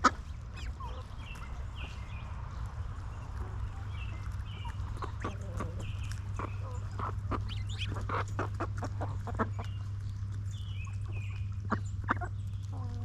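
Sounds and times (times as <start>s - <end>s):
chickens clucking: 0.0s - 13.0s
steady low hum: 0.0s - 13.0s.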